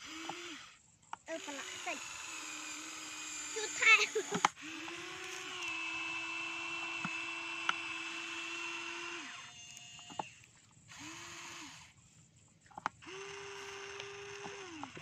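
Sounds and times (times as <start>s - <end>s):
small electric motors whining: 0.0s - 12.2s, 12.8s - 15.0s.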